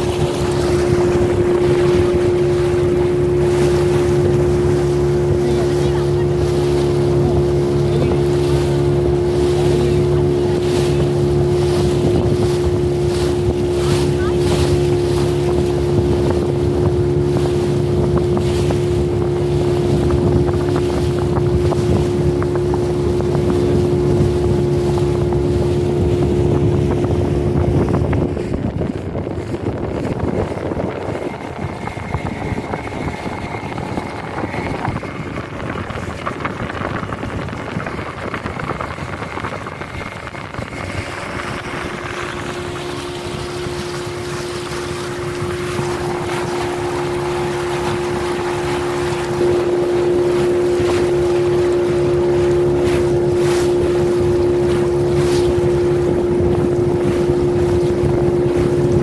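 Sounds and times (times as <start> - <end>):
motor boat engine running: 0.0 - 59.0
water rushing: 0.0 - 59.0
wind: 0.0 - 59.0.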